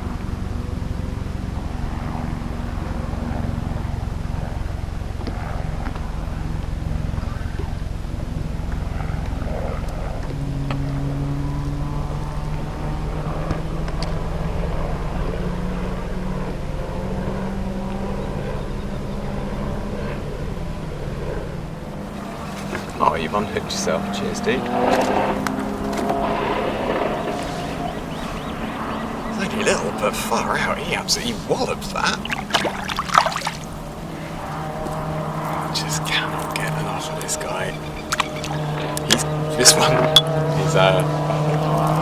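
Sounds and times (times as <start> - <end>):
boat motor humming: 0.0 - 42.0
low wind rumble: 0.0 - 42.0.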